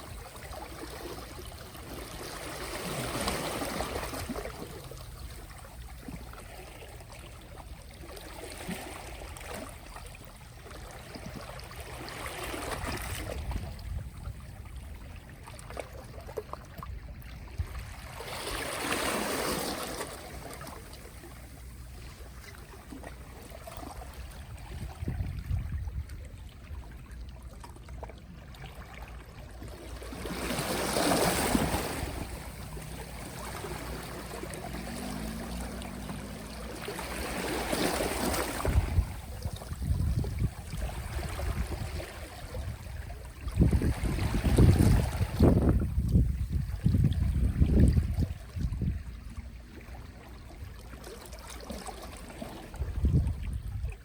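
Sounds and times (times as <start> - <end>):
gentle waves washing ashore: 0.0 - 54.0.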